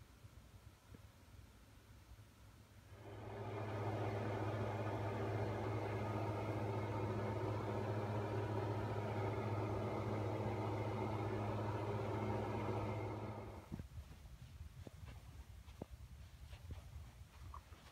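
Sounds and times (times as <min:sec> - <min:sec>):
low mechanical hum: 0:00.0 - 0:17.9.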